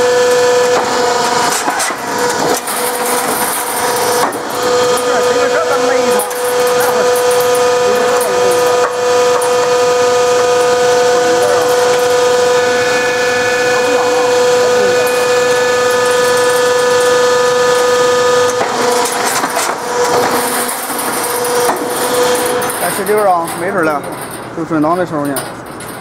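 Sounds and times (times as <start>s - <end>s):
machine whine: 0.0s - 26.0s.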